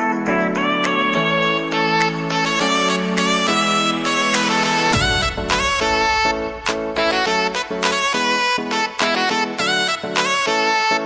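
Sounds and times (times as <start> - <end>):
instrumental music with a beat: 0.0 - 11.0
horn-like lead melody: 0.3 - 11.0.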